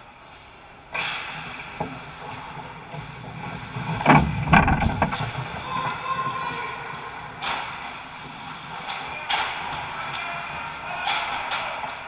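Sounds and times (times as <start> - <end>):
skate blades scraping ice: 0.3 - 12.0
hockey sticks and puck clattering: 0.9 - 12.0.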